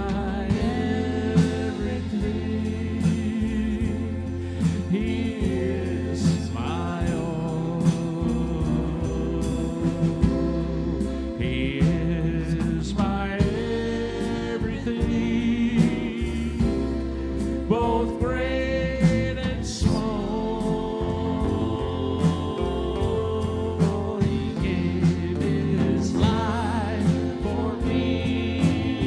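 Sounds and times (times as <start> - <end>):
acoustic guitar: 0.0 - 29.0
drum kit with cymbals: 0.0 - 29.0
keyboard: 0.0 - 29.0
person singing: 0.0 - 29.0.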